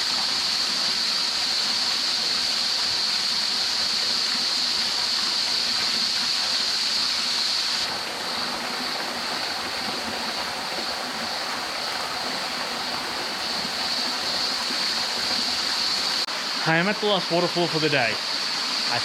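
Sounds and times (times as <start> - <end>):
cicadas droning: 0.0 - 16.8
water rushing in rocky creek: 0.0 - 19.0.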